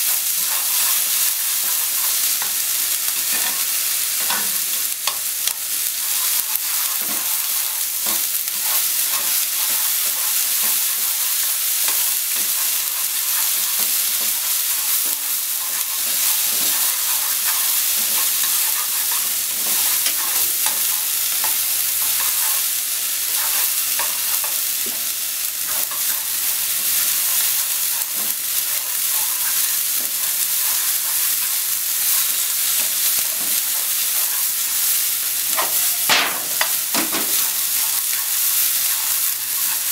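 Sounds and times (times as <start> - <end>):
onion sizzling in hot oil: 0.0 - 39.9.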